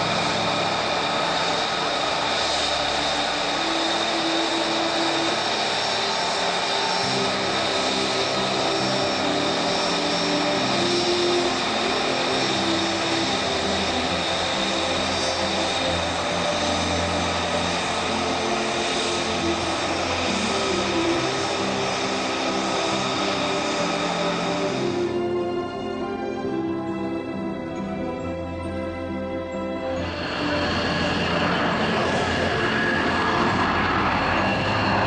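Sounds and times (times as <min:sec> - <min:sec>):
high steady engine whine: 0:00.0 - 0:35.0
turbine engine rushing noise: 0:00.0 - 0:35.0.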